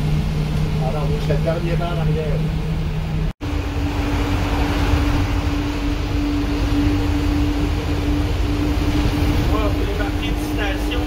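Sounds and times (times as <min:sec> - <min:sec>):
bus engine droning: 0:00.0 - 0:11.0
road noise: 0:00.0 - 0:11.0.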